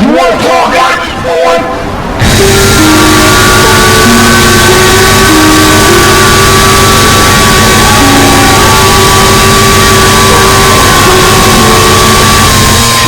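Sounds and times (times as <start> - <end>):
distorted static noise music: 0.0 - 13.0.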